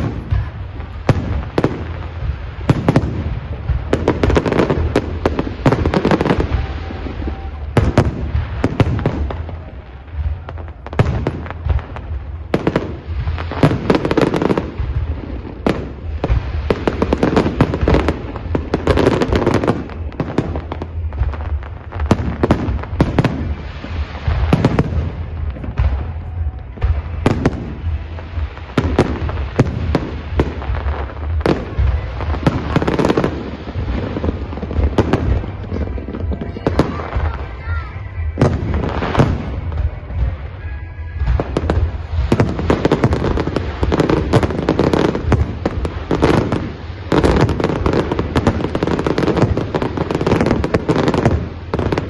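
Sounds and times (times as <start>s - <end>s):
fireworks bursting: 0.0s - 52.0s
low rumble: 0.0s - 52.0s.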